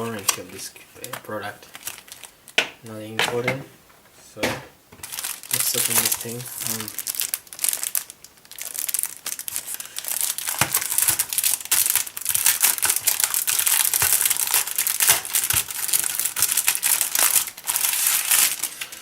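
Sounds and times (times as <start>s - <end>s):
plastic packaging crinkling: 0.0s - 2.6s, 5.0s - 19.0s.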